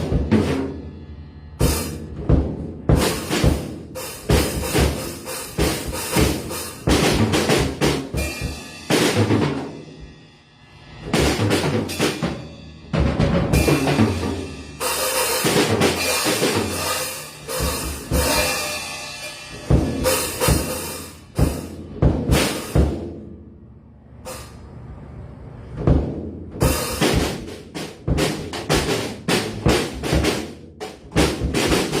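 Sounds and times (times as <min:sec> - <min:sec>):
drum kit playing: 0:00.0 - 0:23.4, 0:24.2 - 0:24.6, 0:25.8 - 0:32.0.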